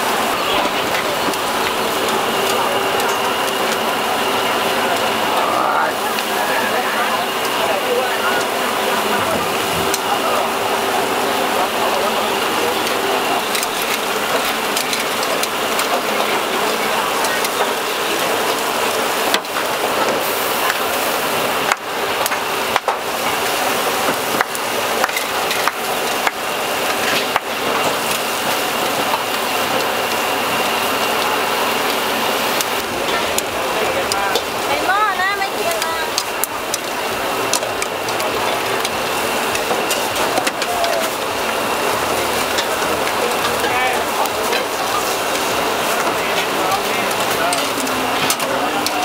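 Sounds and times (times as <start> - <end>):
food sizzling: 0.0 - 49.0.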